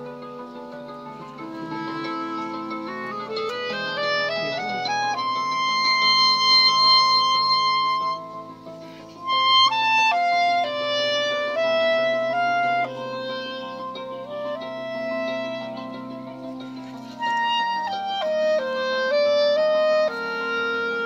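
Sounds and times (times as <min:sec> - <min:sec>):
clarinet slow melody: 0:00.0 - 0:21.0
lower accompaniment: 0:00.0 - 0:21.0.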